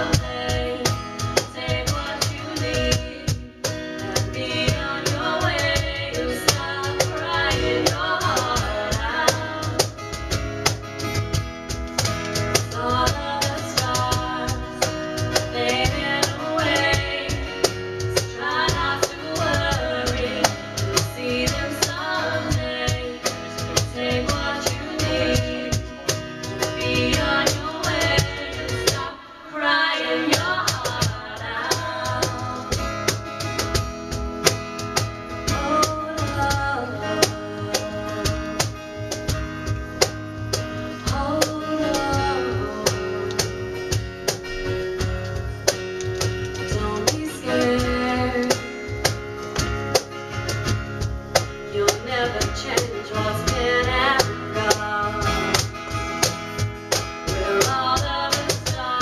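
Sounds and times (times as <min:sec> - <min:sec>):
woman singing into a microphone: 0:00.0 - 0:10.4, 0:12.5 - 0:33.8, 0:35.3 - 0:44.0, 0:46.2 - 0:49.6, 0:51.3 - 0:59.0
cajon played by hand: 0:00.0 - 0:29.2, 0:29.9 - 0:59.0
strummed acoustic guitar: 0:00.0 - 0:59.0.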